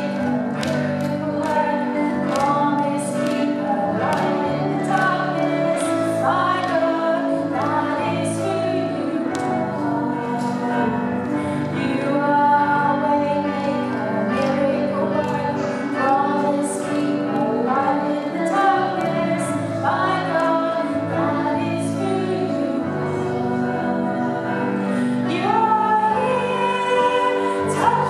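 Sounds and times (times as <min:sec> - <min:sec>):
keyboard chords: 0:00.0 - 0:28.0
woman singing: 0:00.0 - 0:28.0.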